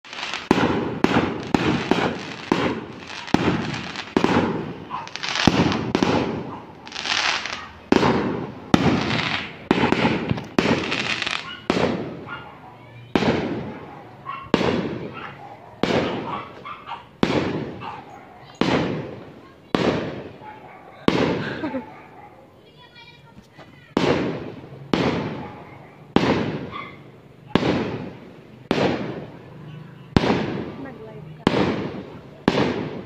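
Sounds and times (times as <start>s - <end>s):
fireworks banging with echo: 0.0s - 21.9s, 22.7s - 33.0s.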